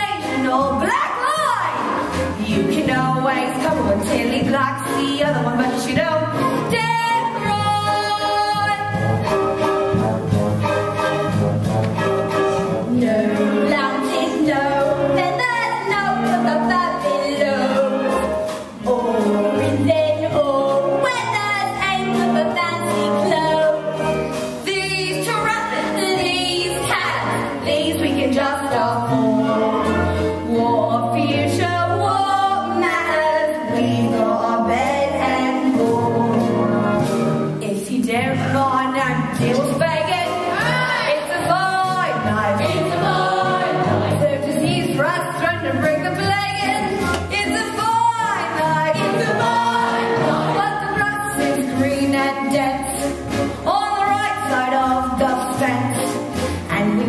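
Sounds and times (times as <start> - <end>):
instrumental accompaniment: 0.0 - 57.0.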